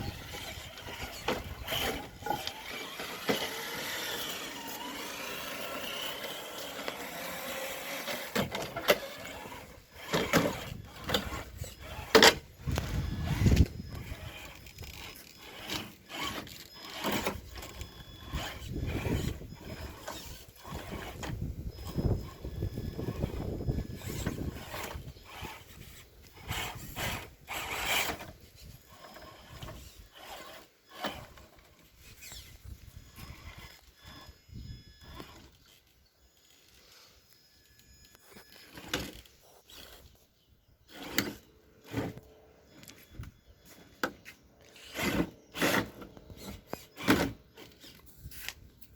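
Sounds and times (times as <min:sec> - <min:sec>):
electric motor whining: 0:00.0 - 0:48.1.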